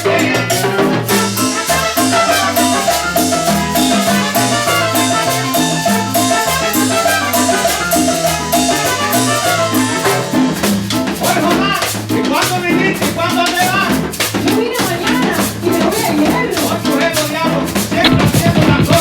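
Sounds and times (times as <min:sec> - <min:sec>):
salsa dance band music: 0:00.0 - 0:19.0.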